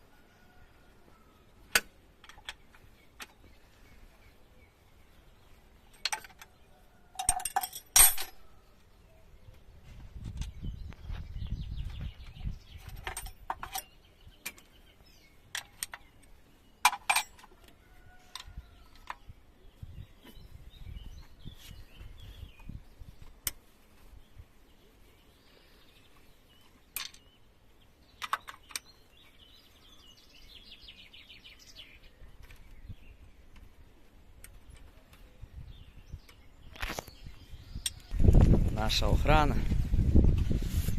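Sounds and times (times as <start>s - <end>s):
birds chirping faintly: 0.0s - 40.9s.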